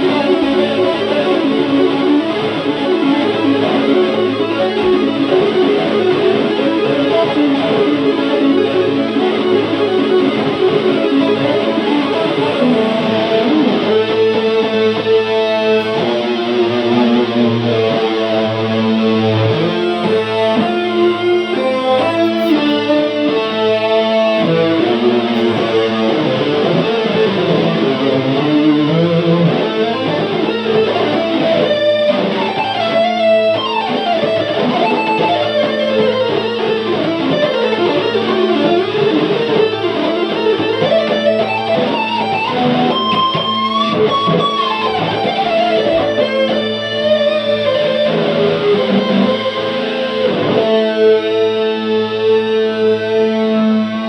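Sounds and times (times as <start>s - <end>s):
electric guitar held chord: 0.0s - 54.0s
gliding guitar lead line: 0.0s - 54.0s.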